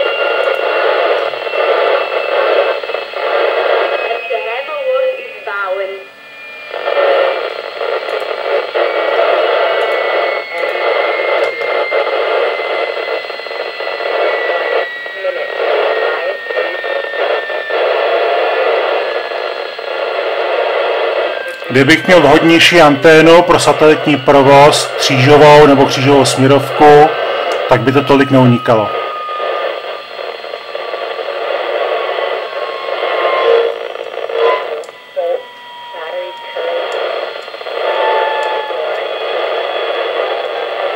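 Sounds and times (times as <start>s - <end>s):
faint steady tone: 0.0s - 40.9s
radio receiver hiss: 0.0s - 40.9s.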